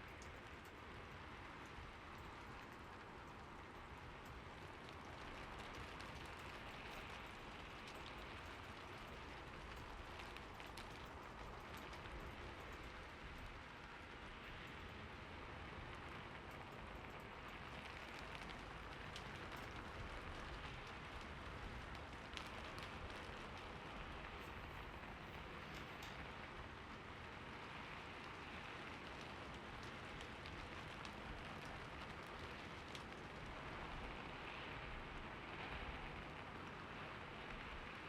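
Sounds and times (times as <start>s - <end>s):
raindrops ticking on surface: 0.0s - 38.0s
steady rain hiss: 0.0s - 38.0s.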